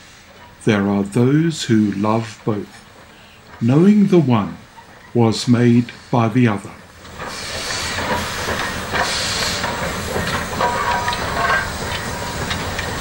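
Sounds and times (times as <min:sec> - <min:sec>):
steam hissing: 0:00.0 - 0:13.0
steam locomotive moving: 0:00.0 - 0:13.0
running gear clanks: 0:00.3 - 0:05.4, 0:07.0 - 0:13.0.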